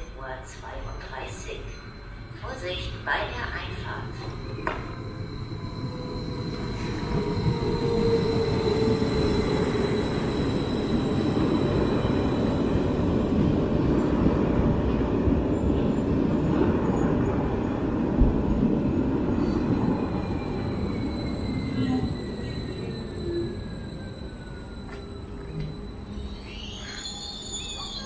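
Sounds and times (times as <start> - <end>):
train wheels rumbling on rails: 0.0 - 28.0
train whine: 0.0 - 28.0.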